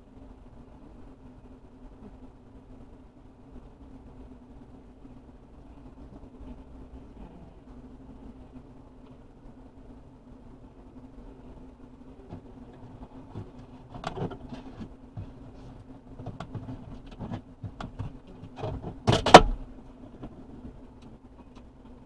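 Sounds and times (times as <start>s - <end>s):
bees humming in hive: 0.0s - 22.0s.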